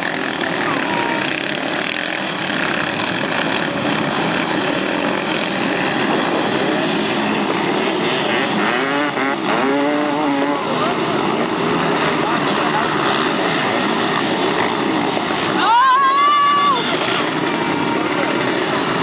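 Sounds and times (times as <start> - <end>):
motorbike engines revving: 0.0 - 19.0.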